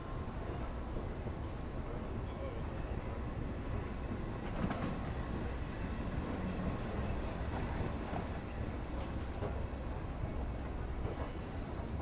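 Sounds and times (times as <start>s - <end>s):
railway station rumble: 0.0s - 12.0s.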